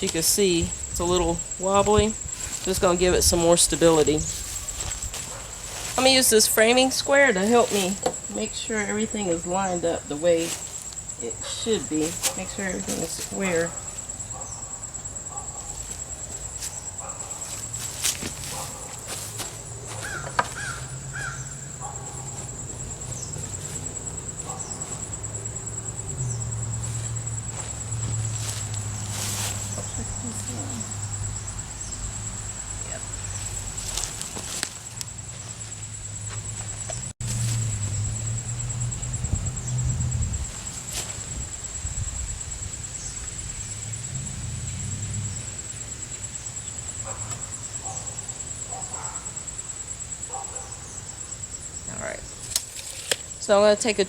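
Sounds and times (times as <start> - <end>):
low outdoor rumble: 0.0 - 47.6
insects trilling: 0.0 - 54.0.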